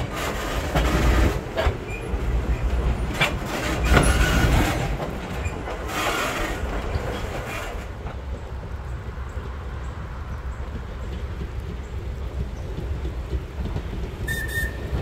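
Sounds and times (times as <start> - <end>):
train clanks and knocks: 0.0 - 15.0
train wheels rumbling: 0.0 - 15.0.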